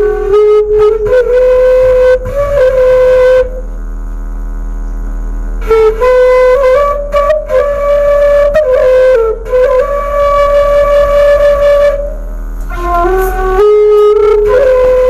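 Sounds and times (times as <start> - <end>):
bamboo flute melody: 0.0 - 3.7, 5.6 - 15.0.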